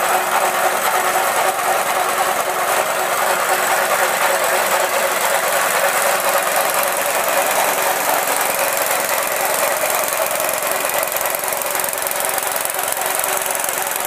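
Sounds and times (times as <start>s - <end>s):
petrol engine running: 0.0s - 14.0s.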